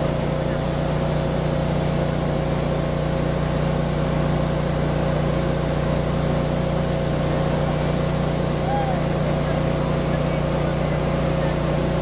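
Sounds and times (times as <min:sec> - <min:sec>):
construction machinery engine drone: 0:00.0 - 0:12.0
high engine whine: 0:00.0 - 0:12.0.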